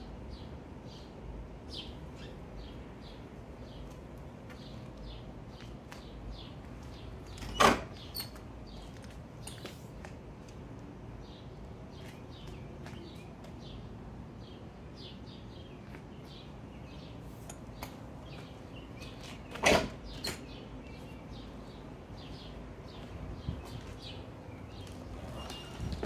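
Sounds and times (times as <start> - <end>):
outdoor background noise: 0.0 - 26.0
small birds chirping: 0.3 - 26.0.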